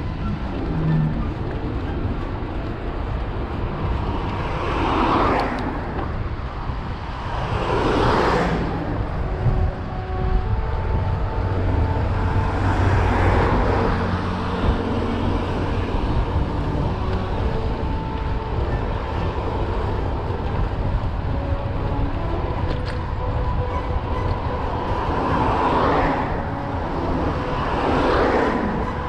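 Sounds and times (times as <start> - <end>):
cars passing: 0.0 - 29.0
wind rumble on microphone: 0.0 - 29.0.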